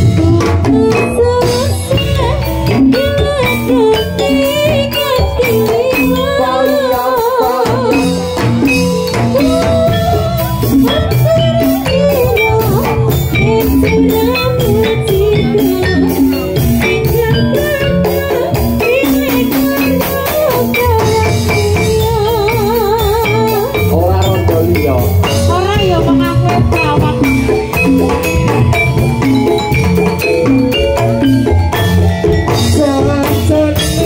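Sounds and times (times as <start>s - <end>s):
person singing: 0.0s - 8.3s, 9.2s - 29.2s, 32.5s - 34.0s
drums: 0.0s - 34.0s
struck metal percussion: 0.0s - 34.0s.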